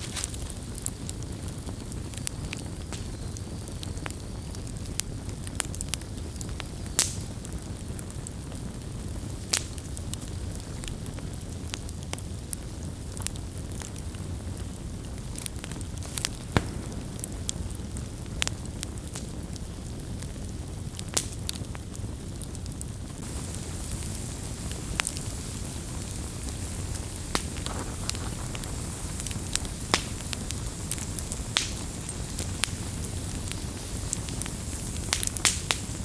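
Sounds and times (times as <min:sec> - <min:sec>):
low rush of flame: 0:00.0 - 0:36.0
wood crackling and popping: 0:00.0 - 0:36.0.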